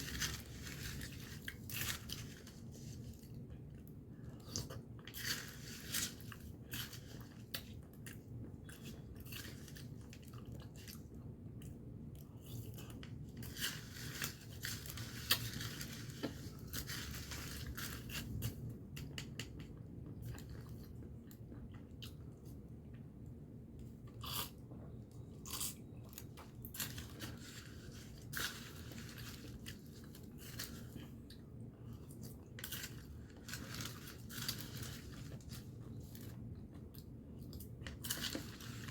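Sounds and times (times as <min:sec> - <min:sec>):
person chewing and crunching: 0:00.0 - 0:22.6, 0:23.8 - 0:38.9.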